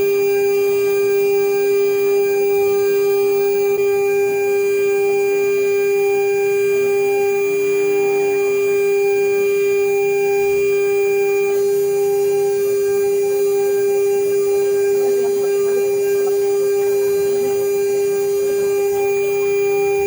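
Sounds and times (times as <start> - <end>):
router spindle whining: 0.0 - 20.0.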